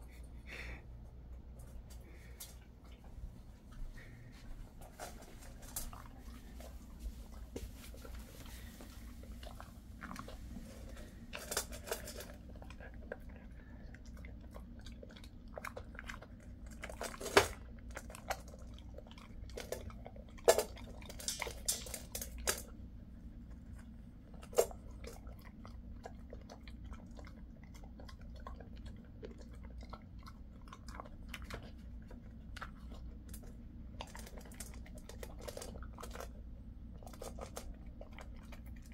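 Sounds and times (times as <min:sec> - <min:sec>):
dog chewing and crunching treats: 0:00.1 - 0:38.9.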